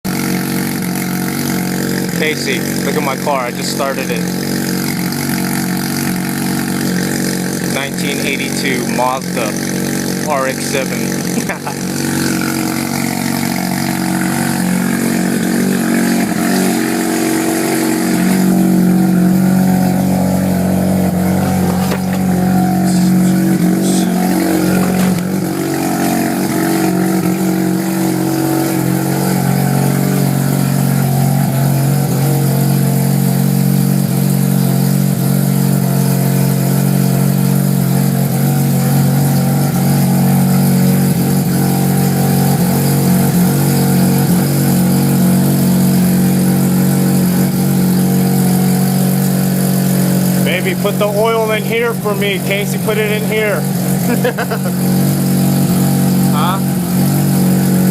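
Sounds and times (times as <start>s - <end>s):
rotary engine idling fast: 0.0s - 57.9s.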